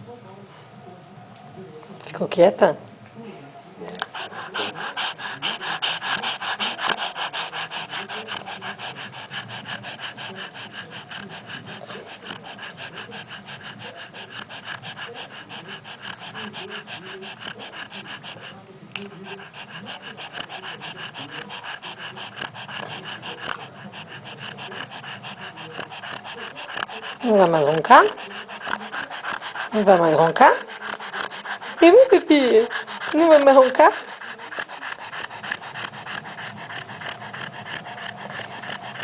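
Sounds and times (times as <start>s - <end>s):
dog panting with rasp: 3.6s - 39.0s.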